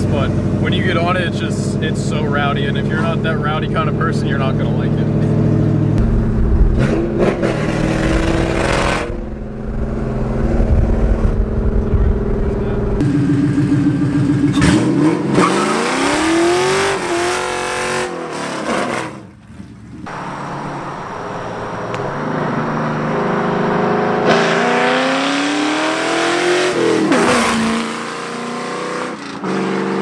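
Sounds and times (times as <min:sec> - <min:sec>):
car engine accelerating hard: 0:00.0 - 0:30.0.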